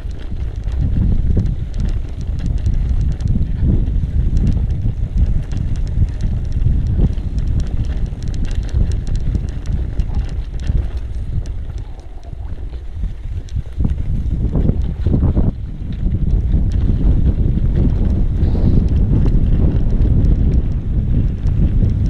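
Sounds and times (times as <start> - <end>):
bike rattling over rough ground: 0.0 - 22.0
wind buffeting microphone: 0.0 - 22.0.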